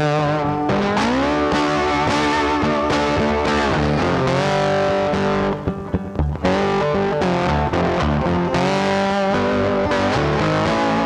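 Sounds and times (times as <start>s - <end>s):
bass guitar: 0.0s - 11.0s
distorted electric guitar: 0.0s - 11.0s
rock music: 0.0s - 11.0s.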